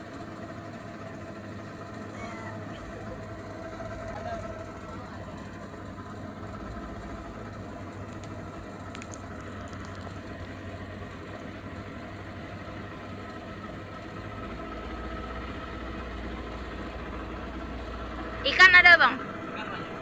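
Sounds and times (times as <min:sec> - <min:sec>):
speedboat motor humming: 0:00.0 - 0:20.0.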